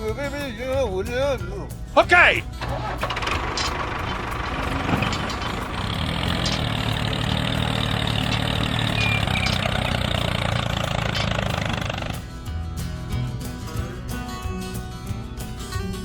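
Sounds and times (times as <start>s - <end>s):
tractor engine idling: 0.0s - 13.9s
guitar music: 0.0s - 16.0s.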